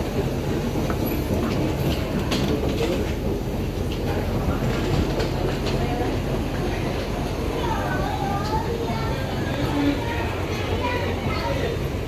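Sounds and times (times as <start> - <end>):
moving walkway rumbling: 0.0 - 12.0.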